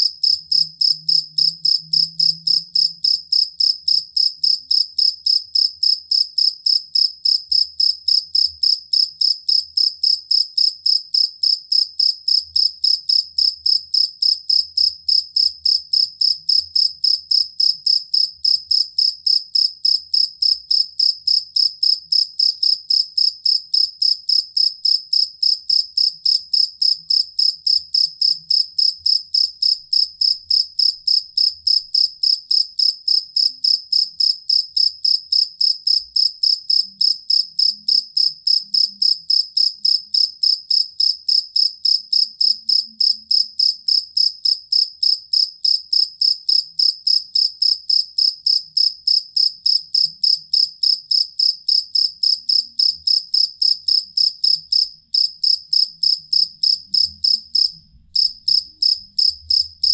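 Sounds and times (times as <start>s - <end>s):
field cricket chirping: 0.0s - 59.9s.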